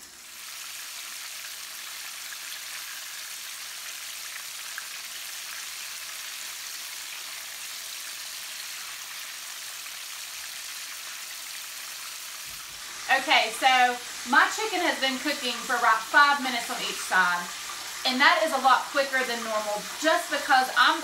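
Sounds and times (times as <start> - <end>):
faint crackle of frying: 0.0 - 21.0
oil sizzling: 0.0 - 21.0.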